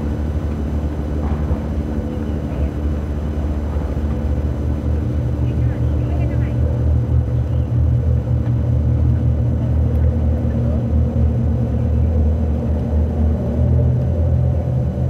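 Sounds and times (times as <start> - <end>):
boat engine rumble: 0.0 - 15.0.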